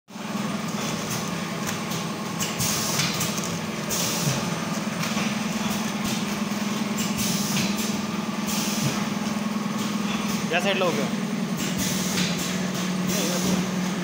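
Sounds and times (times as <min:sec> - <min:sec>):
machine low hum: 0:00.1 - 0:14.0.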